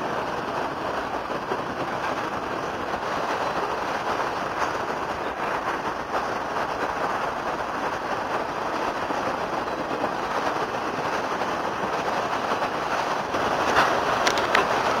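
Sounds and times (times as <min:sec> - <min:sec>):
freight cars rolling on rails: 0:00.0 - 0:15.0.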